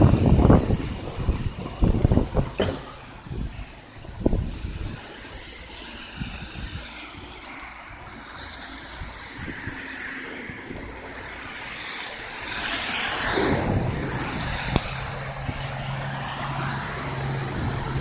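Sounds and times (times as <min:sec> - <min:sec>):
heavy wind and rain: 0:00.0 - 0:18.0
wind buffeting microphone: 0:00.0 - 0:18.0.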